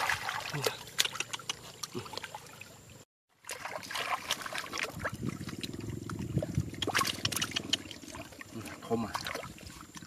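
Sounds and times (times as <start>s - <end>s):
shallow water trickling and splashing: 0.0s - 10.0s.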